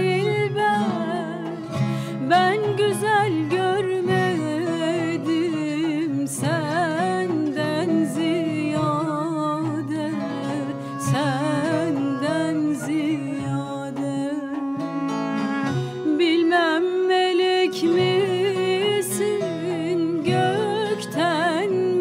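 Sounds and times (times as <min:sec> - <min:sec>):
bowed fiddle: 0:00.0 - 0:22.0
double-reed wind instrument: 0:00.0 - 0:22.0
plucked lute: 0:00.0 - 0:22.0
woman singing: 0:00.0 - 0:22.0.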